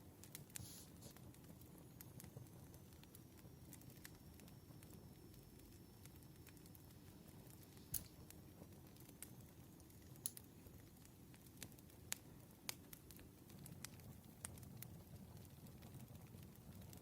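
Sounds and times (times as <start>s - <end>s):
burning wood crackles and pops: 0.0s - 17.0s
campfire low rumble: 0.0s - 17.0s.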